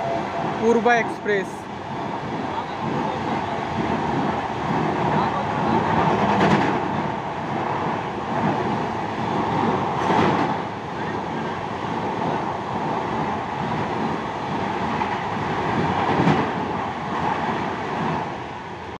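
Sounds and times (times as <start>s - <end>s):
train rumbling over bridge: 0.0s - 19.0s.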